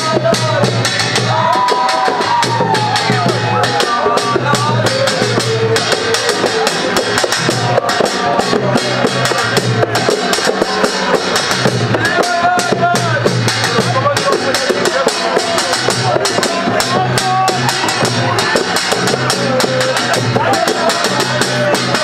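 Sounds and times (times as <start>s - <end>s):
frame drums played fast: 0.0s - 22.0s.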